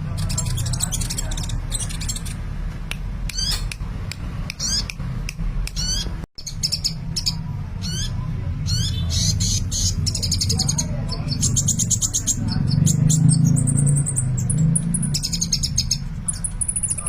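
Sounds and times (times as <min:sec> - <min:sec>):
bird singing rapid chirps: 0:00.0 - 0:02.6, 0:03.2 - 0:03.8, 0:04.4 - 0:17.0.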